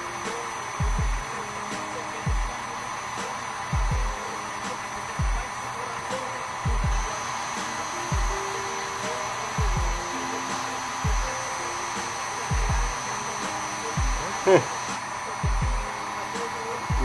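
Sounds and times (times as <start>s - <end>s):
background music with kick drum: 0.0s - 5.6s, 6.5s - 17.0s
heat gun blowing air: 0.0s - 17.0s.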